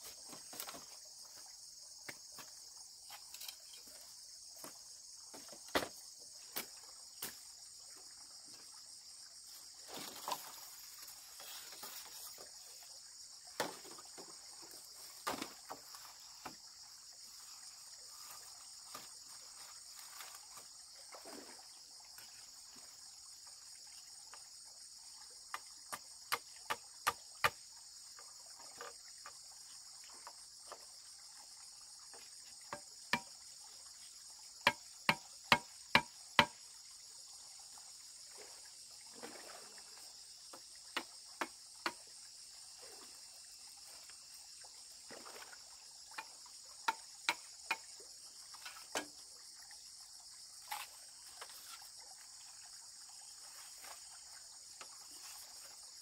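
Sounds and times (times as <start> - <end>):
high insect chorus: 0.0 - 56.0.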